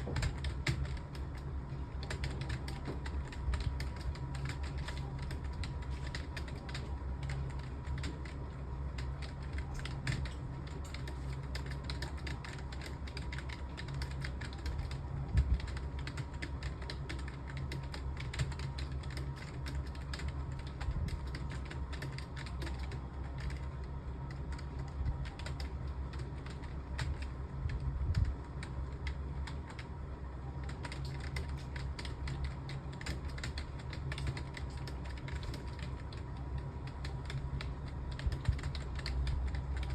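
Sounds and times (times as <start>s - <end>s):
fast typing on keyboard: 0.0s - 39.9s
steady low hum: 0.0s - 39.9s.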